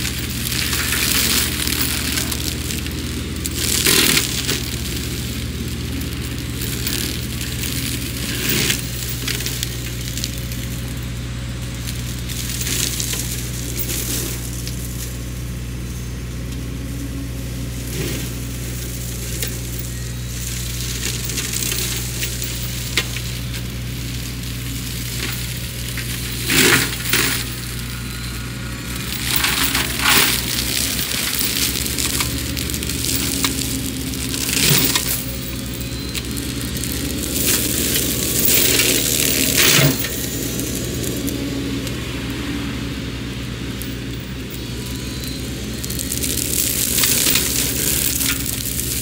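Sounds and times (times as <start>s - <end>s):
excavator diesel engine running: 0.0s - 49.0s
flail mulcher shredding brush: 0.0s - 49.0s.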